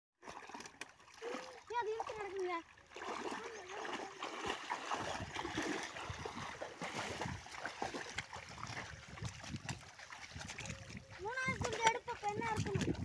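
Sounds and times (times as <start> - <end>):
branches dragged in water: 0.2 - 13.0
feet wading through muddy water: 0.2 - 13.0.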